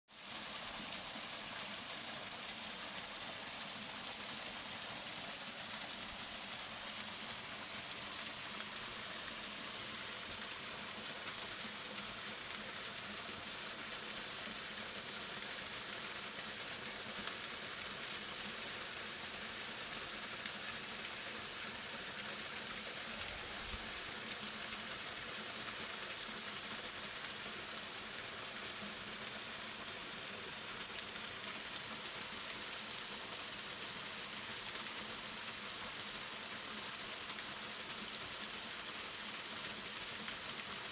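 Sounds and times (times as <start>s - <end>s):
waterfall splashing under ice: 0.3s - 40.9s.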